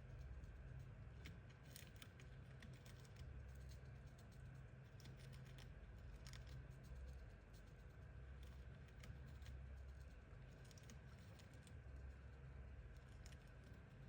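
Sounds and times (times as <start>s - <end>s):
low background hum: 0.0s - 14.0s
hamster nibbling food: 0.1s - 14.0s.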